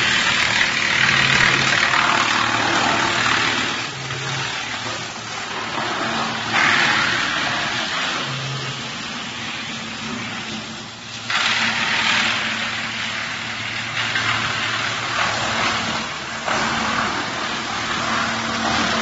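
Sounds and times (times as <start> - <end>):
wood chipper low hum: 0.0 - 19.0
wood chipper rough rushing: 0.0 - 19.0.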